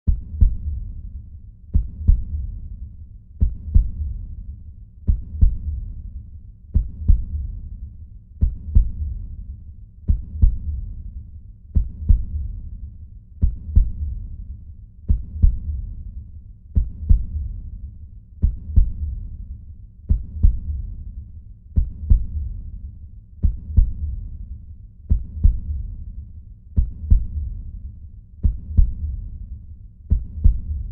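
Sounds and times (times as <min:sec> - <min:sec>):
heartbeat thumps: 0:00.1 - 0:01.1, 0:01.7 - 0:11.1, 0:11.7 - 0:12.8, 0:13.4 - 0:17.8, 0:18.4 - 0:21.0, 0:21.7 - 0:22.8, 0:23.4 - 0:30.9.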